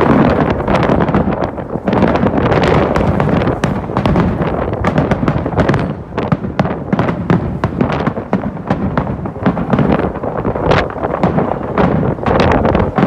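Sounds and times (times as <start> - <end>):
fireworks bangs and crackles: 0.0 - 13.0
wind buffeting microphone: 0.0 - 13.0.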